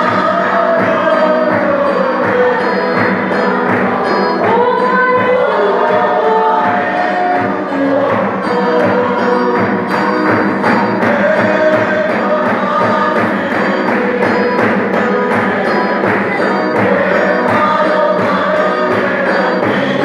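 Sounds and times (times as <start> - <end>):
congregation singing a hymn: 0.0 - 20.0
steady percussion beat: 0.0 - 20.0.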